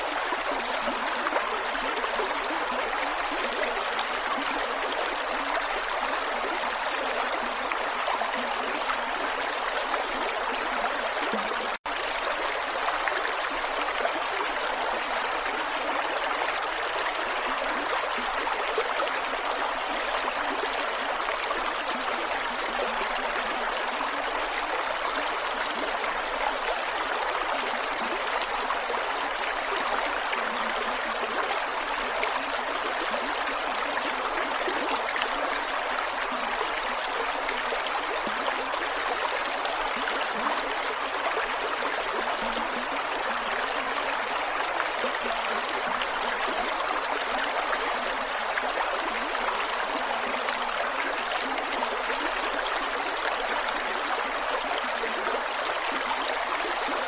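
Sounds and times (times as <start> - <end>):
creek water flowing over rocks: 0.0 - 57.0.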